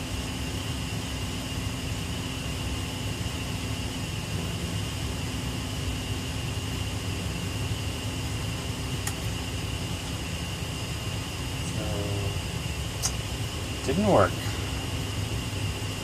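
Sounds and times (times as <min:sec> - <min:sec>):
draft fan whirring: 0:00.0 - 0:16.0
low hum: 0:00.0 - 0:16.0.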